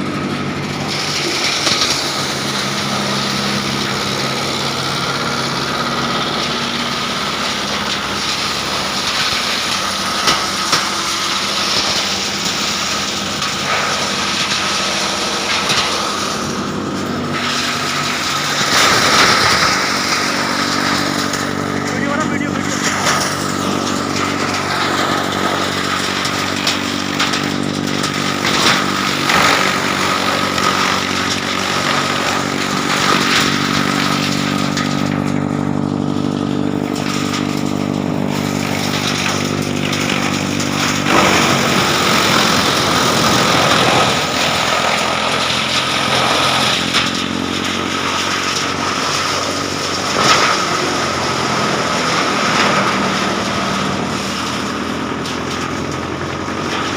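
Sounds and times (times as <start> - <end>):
wood chipper running: 0.0 - 56.9.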